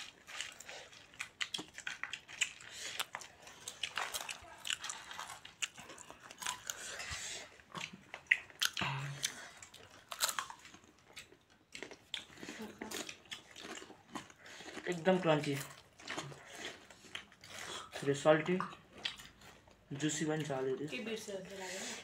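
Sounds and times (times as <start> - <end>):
person chewing food: 0.0 - 20.9.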